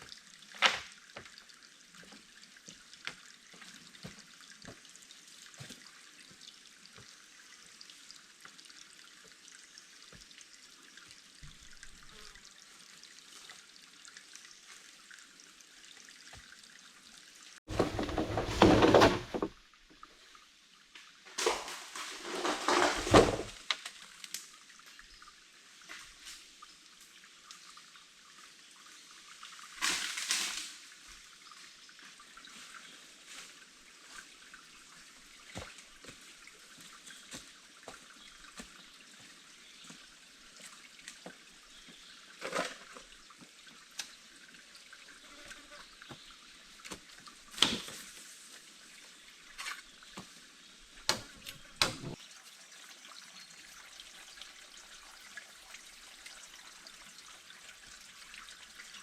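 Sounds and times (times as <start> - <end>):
water dripping and trickling: 0.0 - 18.6, 19.4 - 59.0.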